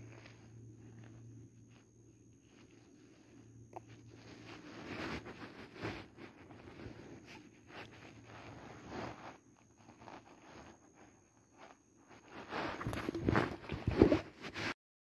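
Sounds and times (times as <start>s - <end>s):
hand rustling against phone: 0.0s - 14.7s.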